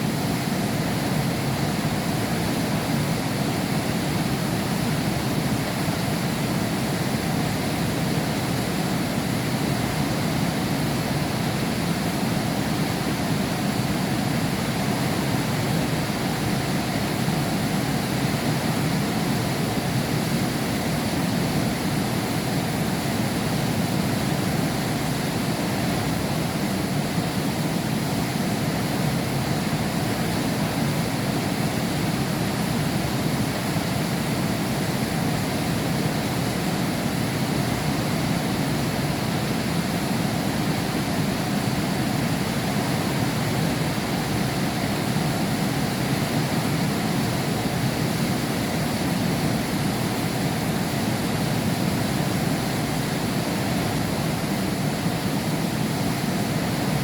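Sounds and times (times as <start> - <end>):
heavy rain behind window glass: 0.0 - 57.0.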